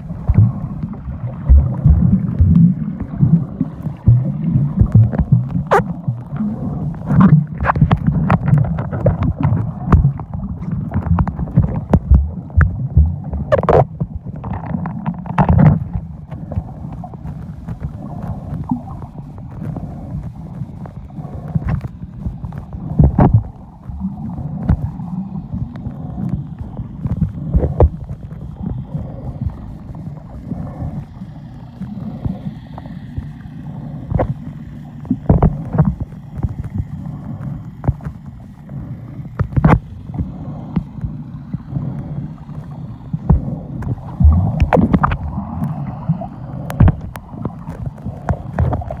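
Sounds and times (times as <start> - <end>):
underwater clicks and knocks: 0.0 - 30.1, 34.1 - 49.0
underwater rumble of moving water: 0.0 - 49.0.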